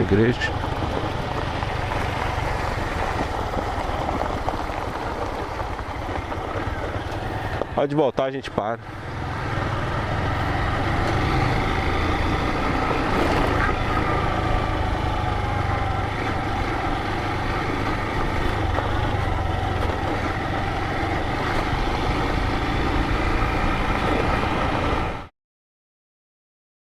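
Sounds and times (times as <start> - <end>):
motorcycle engine running: 0.0 - 25.3
road and wind noise: 0.0 - 25.3.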